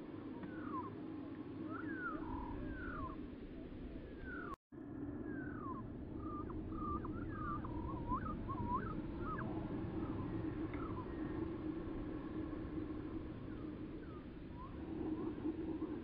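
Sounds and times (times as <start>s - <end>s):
steady low hum: 0.0s - 16.0s
bird singing: 0.4s - 1.0s, 1.6s - 16.0s.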